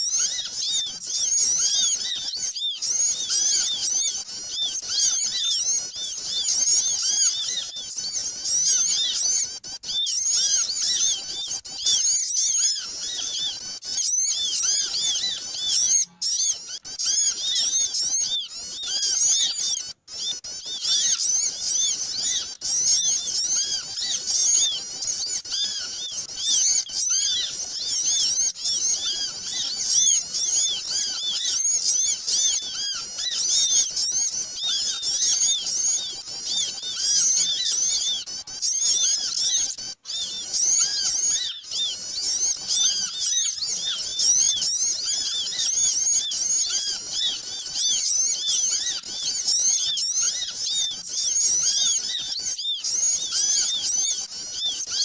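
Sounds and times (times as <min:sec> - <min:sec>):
small birds twittering: 0:00.0 - 0:55.0.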